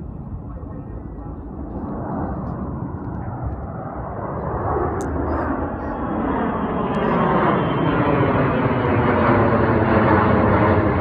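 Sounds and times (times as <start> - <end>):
airplane engine noise: 0.0 - 11.0.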